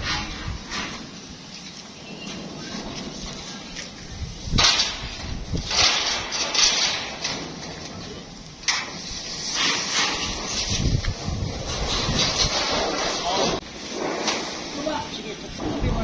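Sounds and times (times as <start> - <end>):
metal roofing sheets scraping: 0.0 - 16.0.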